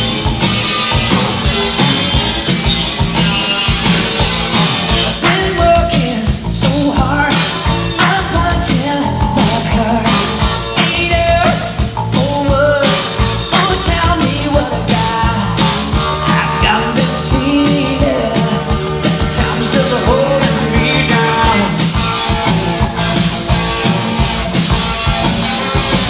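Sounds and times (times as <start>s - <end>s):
pop-rock song over sound system: 0.0s - 26.0s.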